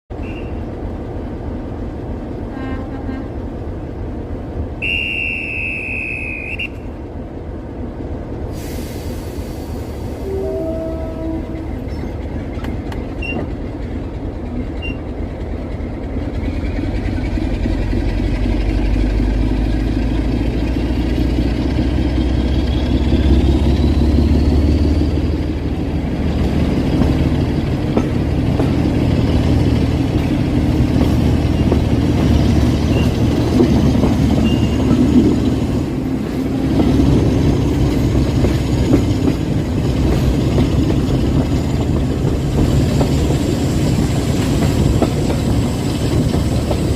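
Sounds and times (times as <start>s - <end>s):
diesel locomotive engine rumble: 0.1s - 46.9s.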